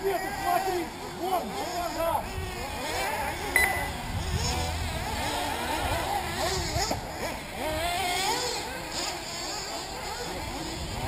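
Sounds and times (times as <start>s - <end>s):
small engines buzzing: 0.0s - 11.0s.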